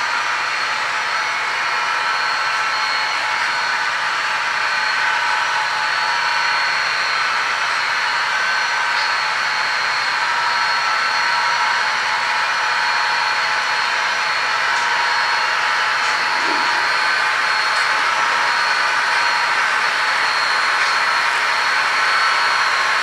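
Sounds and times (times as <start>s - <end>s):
high steady whine: 0.0s - 23.0s
model locomotives running: 0.0s - 23.0s.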